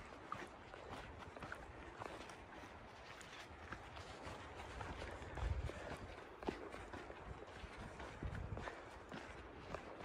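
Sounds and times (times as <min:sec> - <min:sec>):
footsteps on a trail: 0:00.0 - 0:10.0.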